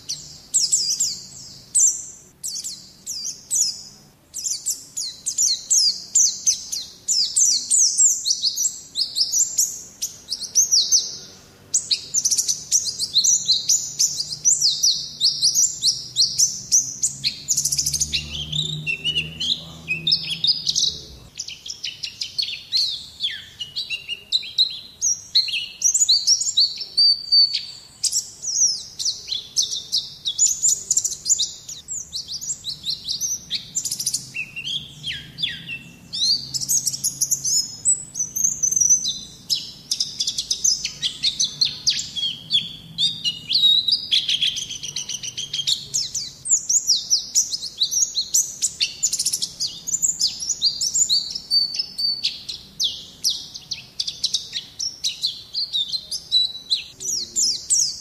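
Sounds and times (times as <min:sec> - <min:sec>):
bird twittering song: 0:00.0 - 0:58.0.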